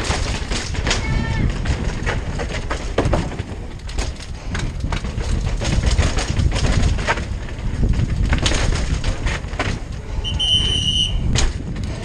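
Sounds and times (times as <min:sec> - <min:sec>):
clacks and knocks from bumps: 0:00.0 - 0:10.2
bike frame and chain rattling: 0:00.0 - 0:12.0
wind buffeting microphone: 0:00.0 - 0:12.0.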